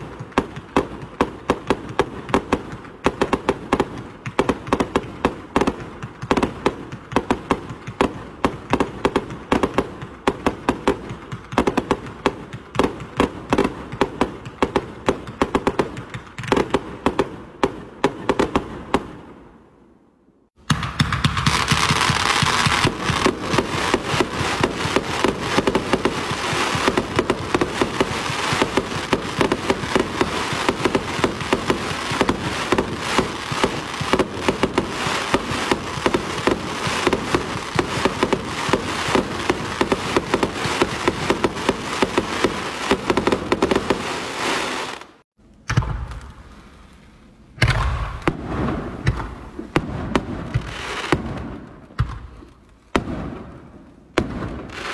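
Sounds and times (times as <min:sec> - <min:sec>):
fireworks pops and cracks: 0:00.0 - 0:19.2, 0:20.6 - 0:46.9, 0:47.6 - 0:54.9.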